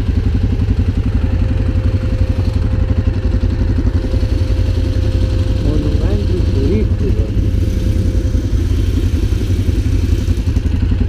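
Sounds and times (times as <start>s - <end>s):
quad bike engines idling: 0.0s - 11.0s.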